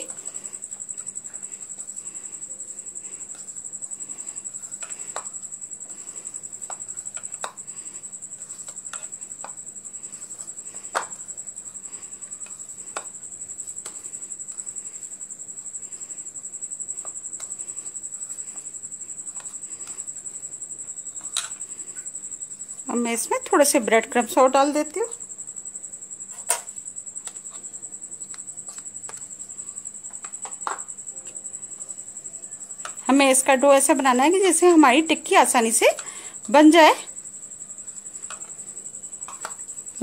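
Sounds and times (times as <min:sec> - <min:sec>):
steady high-pitched whine: 0:00.0 - 0:40.0.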